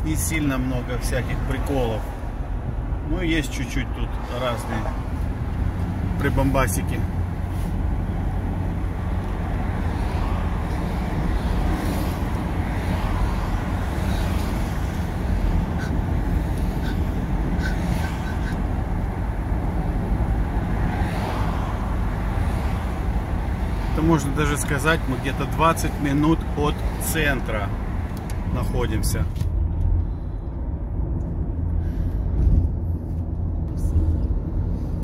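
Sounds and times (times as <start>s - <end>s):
car engine inside cabin: 0.0s - 35.0s.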